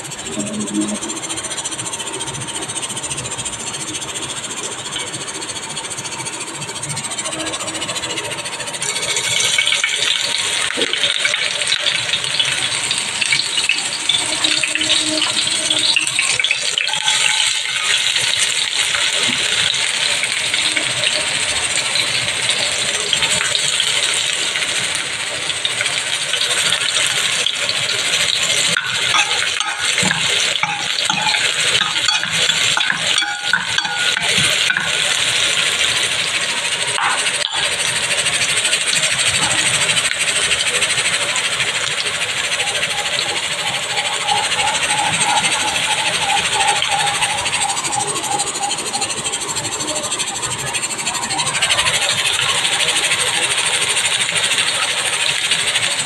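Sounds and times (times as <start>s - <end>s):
garlic sizzling in hot oil: 0.6s - 56.0s.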